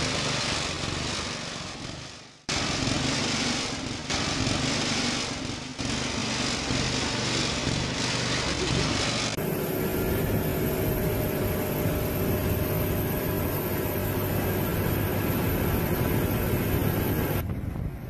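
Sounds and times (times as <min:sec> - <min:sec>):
tractor engine under load: 0:00.0 - 0:17.5.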